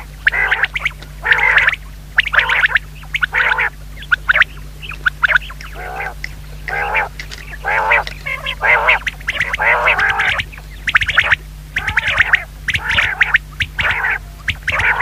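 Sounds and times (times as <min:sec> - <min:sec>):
quail calling: 0:00.0 - 0:15.0.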